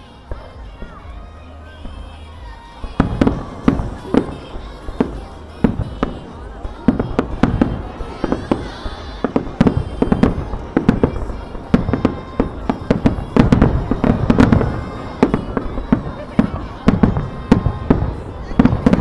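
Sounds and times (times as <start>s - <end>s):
firework crackling: 0.0s - 19.0s
loud firework bangs: 0.0s - 19.0s
firework booms: 1.8s - 19.0s.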